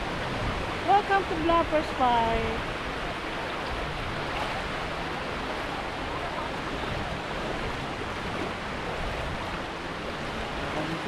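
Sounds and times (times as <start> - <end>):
small waves washing over sand: 0.0 - 11.0
wind on microphone: 0.0 - 11.0.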